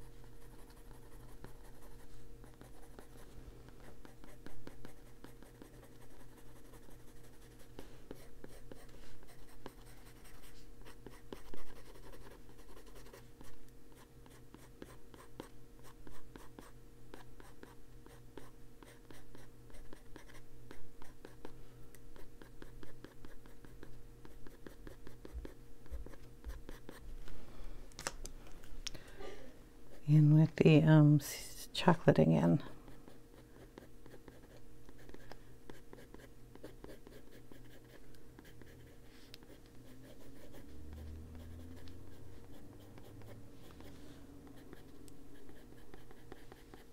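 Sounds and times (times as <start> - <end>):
pencil scratching on paper: 0.0 - 3.2, 3.8 - 21.6, 22.2 - 27.0, 33.1 - 46.9
faint steady hum: 0.0 - 46.9.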